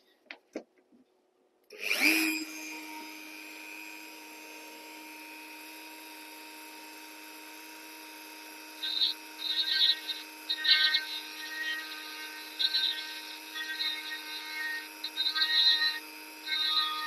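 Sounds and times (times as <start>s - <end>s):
rotary carving tool whining: 1.7s - 17.0s.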